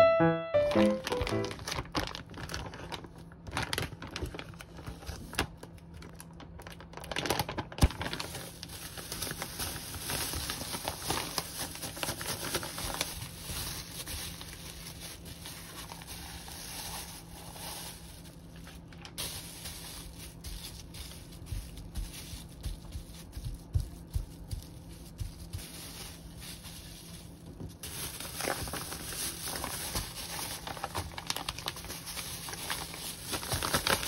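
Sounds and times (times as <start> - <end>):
plastic bags crinkling: 0.7 - 34.0.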